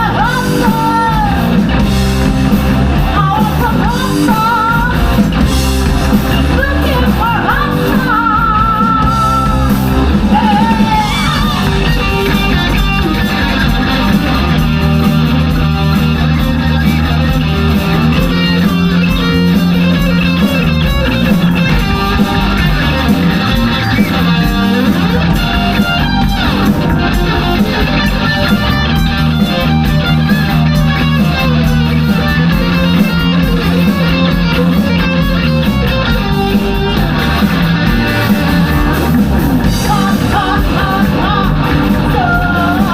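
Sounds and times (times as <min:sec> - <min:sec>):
electric guitar: 0:00.0 - 0:42.9
live rock band playing: 0:00.0 - 0:42.9.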